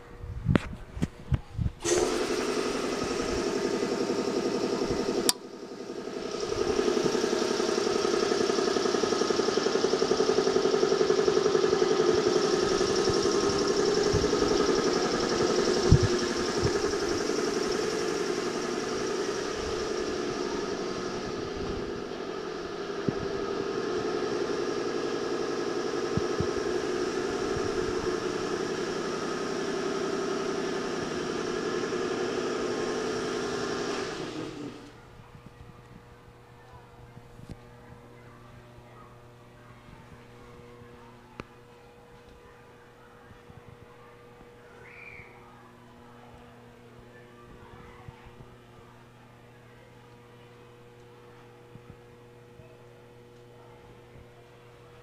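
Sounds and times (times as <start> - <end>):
ceiling fans humming: 0.0 - 55.0.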